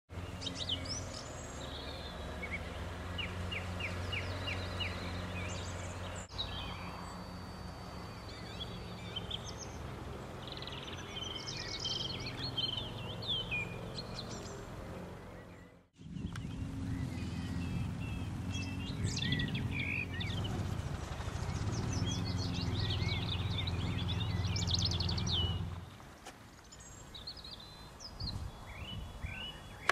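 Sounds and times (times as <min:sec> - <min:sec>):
small birds chirping: 0:00.1 - 0:29.9.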